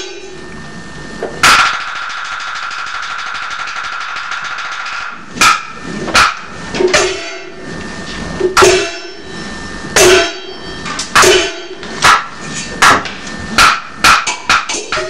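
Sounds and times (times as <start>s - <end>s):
loud ringing percussion strikes: 0.0s - 7.7s, 8.4s - 15.0s.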